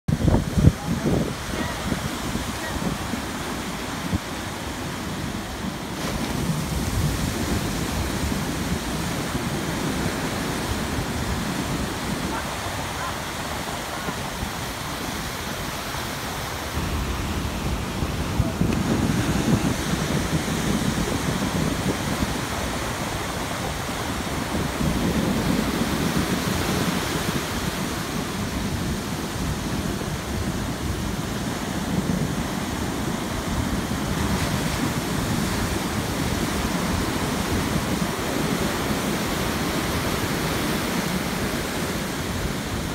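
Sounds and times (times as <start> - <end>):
ocean surf breaking: 0.1 - 42.9.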